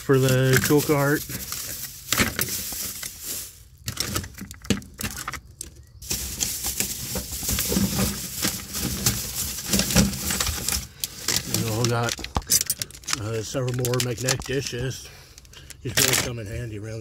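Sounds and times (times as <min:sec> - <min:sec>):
packaging rustling and crinkling: 0:00.0 - 0:16.3.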